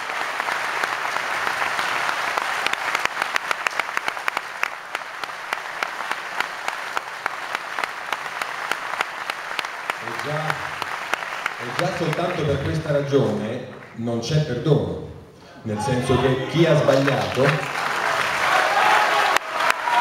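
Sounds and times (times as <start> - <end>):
audience applauding: 0.0 - 14.0, 16.0 - 20.0.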